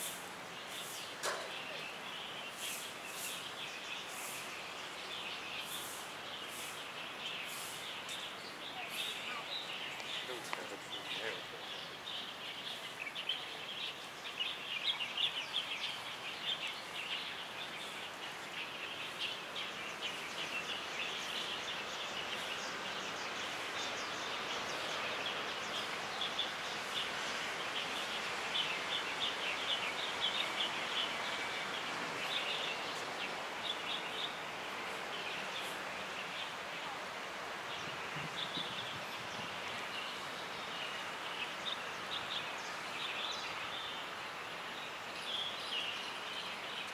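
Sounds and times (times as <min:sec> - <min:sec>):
outdoor background hiss: 0:00.0 - 0:46.9
small birds chirping: 0:00.0 - 0:46.9.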